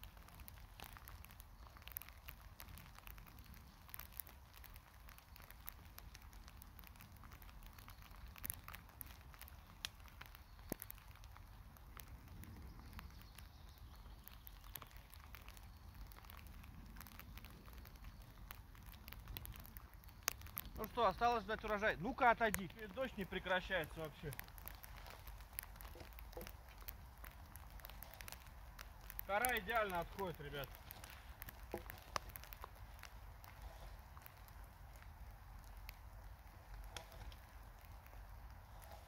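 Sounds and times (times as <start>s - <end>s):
light rain on leaves: 0.0s - 39.0s.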